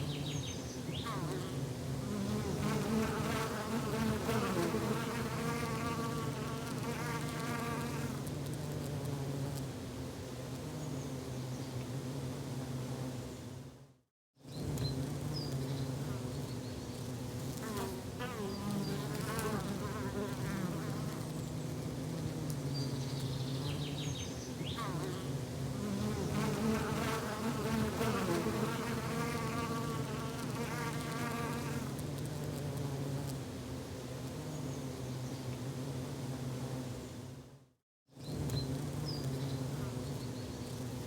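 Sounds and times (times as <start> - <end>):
insects buzzing drone: 0.0 - 13.8, 14.4 - 41.0.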